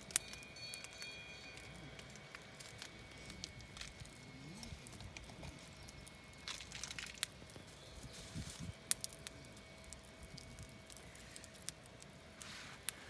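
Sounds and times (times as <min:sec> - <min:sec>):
campfire wood crackling: 0:00.0 - 0:13.0
faint steady tone: 0:00.0 - 0:13.0.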